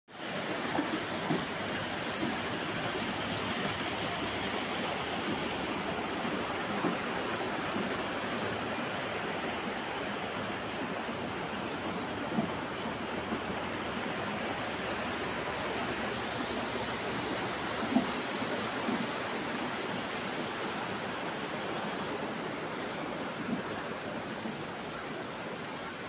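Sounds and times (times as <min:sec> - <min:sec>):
water rushing and splashing: 0:00.1 - 0:26.0.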